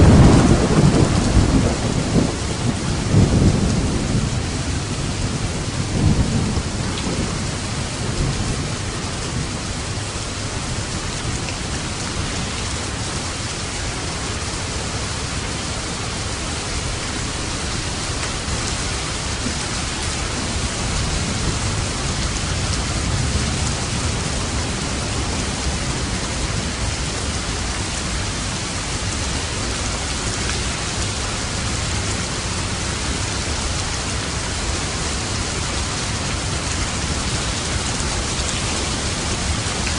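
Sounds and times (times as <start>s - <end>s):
low thunder rumbling: 0.0s - 13.6s, 14.2s - 39.9s
heavy rain falling: 0.0s - 39.9s.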